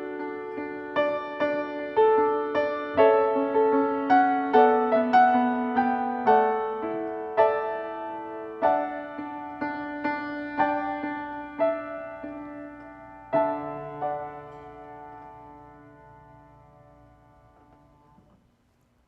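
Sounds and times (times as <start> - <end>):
slow quiet piano chords: 0.0 - 19.0.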